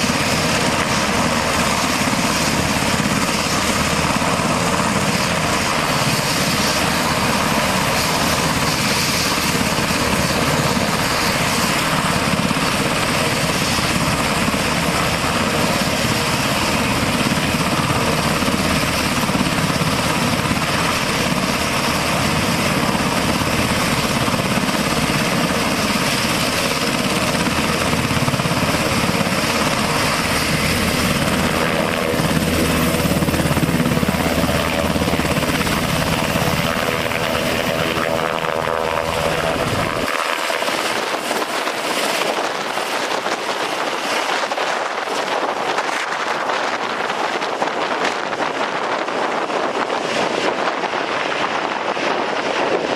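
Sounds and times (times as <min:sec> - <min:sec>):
helicopter engines and rotors: 0:00.0 - 0:52.9.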